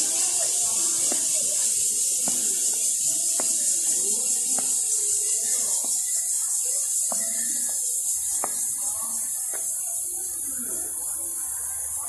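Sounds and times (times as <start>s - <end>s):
steady high hiss: 0.0s - 11.6s
faint distant voices: 0.0s - 12.0s.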